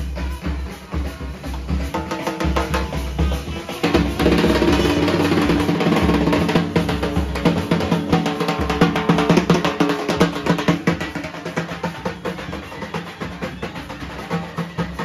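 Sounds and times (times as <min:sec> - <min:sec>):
barrel drums beaten with sticks: 0:00.0 - 0:15.0.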